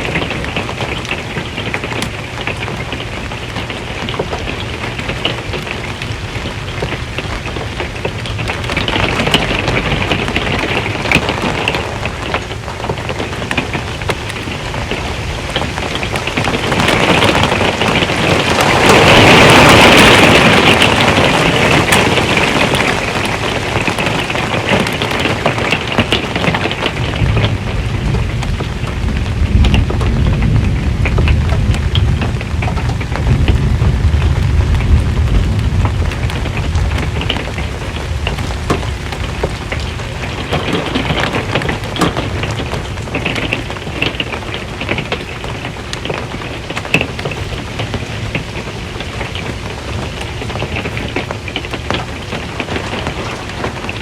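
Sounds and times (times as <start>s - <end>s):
low thunder rumble: 0.0s - 54.0s
rain on a metal roof: 0.0s - 54.0s.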